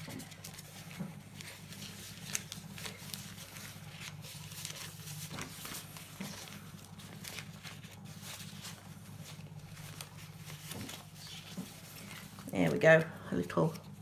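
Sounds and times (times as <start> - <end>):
paper sticker sheets rustling: 0.0 - 14.0
steady low hum: 0.0 - 14.0.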